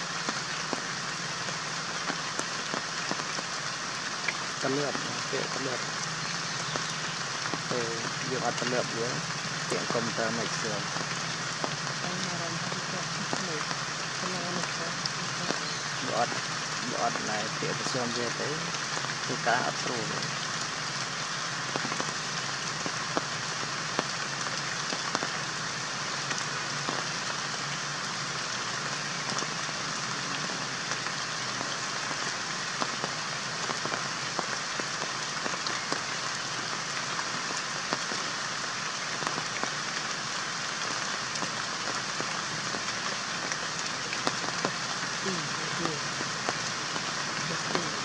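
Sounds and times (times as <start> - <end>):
rain-like patter with hiss: 0.0 - 48.0.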